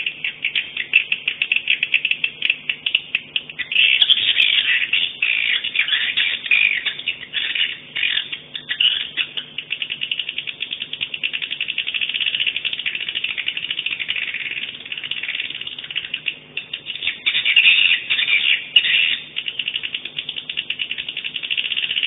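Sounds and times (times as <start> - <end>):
bird rattling trill of clicks: 0.0 - 4.5, 8.0 - 22.0
bird chirping twitters: 0.0 - 22.0.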